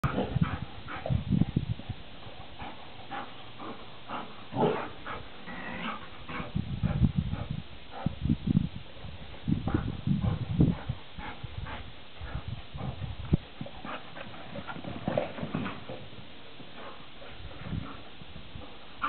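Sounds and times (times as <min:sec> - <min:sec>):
dogs making rough pulsing sounds: 0:00.0 - 0:01.6, 0:02.2 - 0:08.2, 0:09.0 - 0:19.0.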